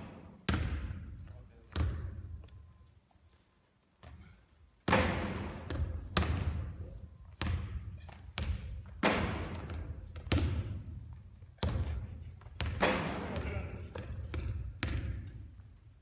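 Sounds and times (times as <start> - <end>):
basketball bouncing on court: 0.0 - 2.5, 4.0 - 15.6.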